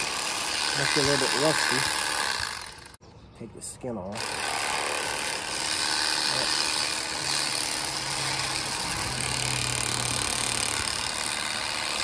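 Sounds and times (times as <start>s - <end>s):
electric knife buzzing: 0.0s - 3.0s, 4.2s - 12.0s.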